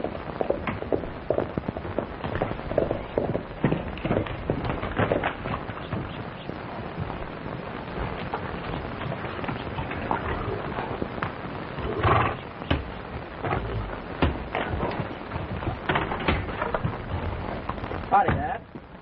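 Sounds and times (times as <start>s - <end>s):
film soundtrack hiss: 0.0s - 19.0s
horse hooves on dirt path: 0.0s - 19.0s
man's footsteps: 0.0s - 19.0s.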